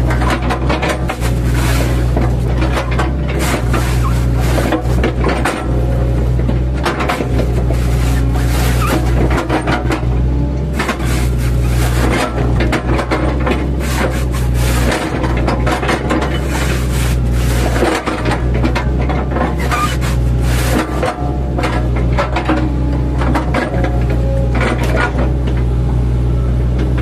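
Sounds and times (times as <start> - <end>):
bucket crunching and scraping wood: 0.0 - 25.3
excavator diesel engine running: 0.0 - 27.0.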